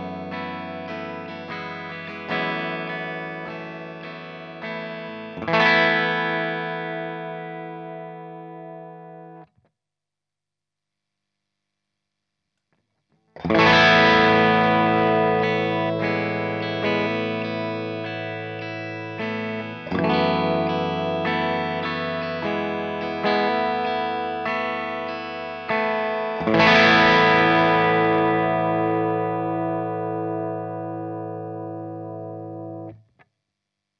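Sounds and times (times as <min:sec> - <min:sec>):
electric guitar chords: 0:00.0 - 0:09.5, 0:13.4 - 0:33.1.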